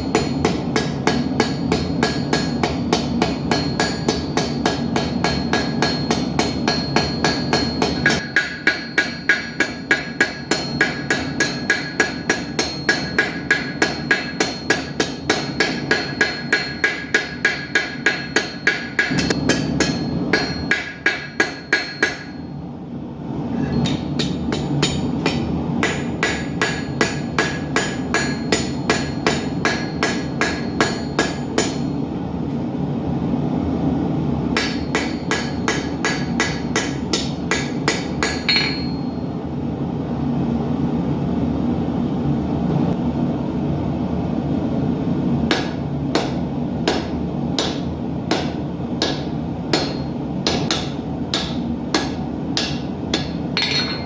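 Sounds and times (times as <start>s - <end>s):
hammer ringing on anvil: 0.0s - 22.6s, 23.6s - 32.0s, 34.6s - 39.3s, 45.5s - 54.0s.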